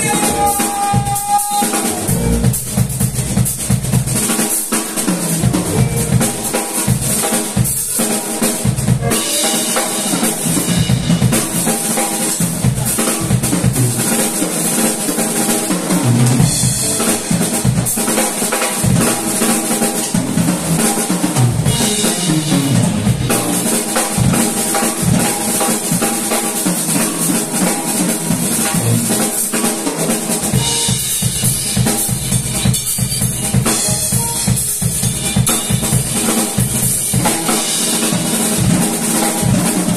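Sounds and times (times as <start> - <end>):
live funk band playing: 0.0 - 39.9
steady drumming: 0.0 - 39.9.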